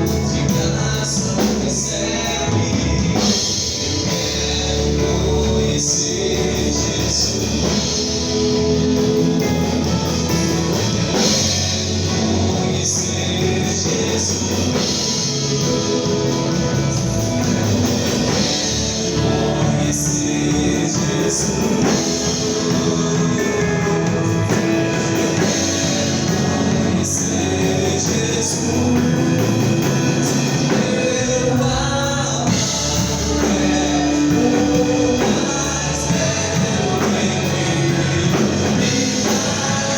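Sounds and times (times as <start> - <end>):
drum kit: 0.0 - 39.9
person singing: 0.0 - 39.9
worship band playing: 0.0 - 39.9.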